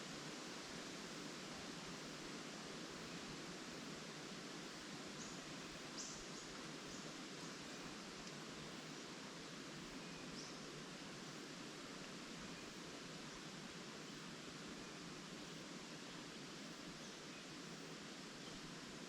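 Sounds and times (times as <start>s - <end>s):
wind rustling tree leaves: 0.0s - 19.0s.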